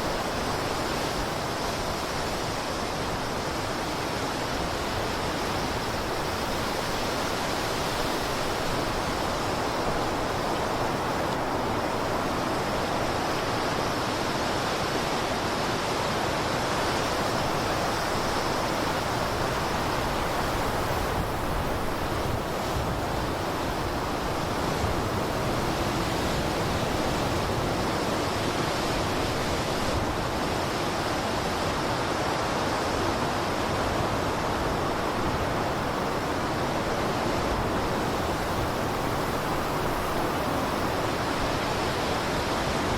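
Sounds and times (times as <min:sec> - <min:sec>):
blizzard wind blowing: 0:00.0 - 0:42.9.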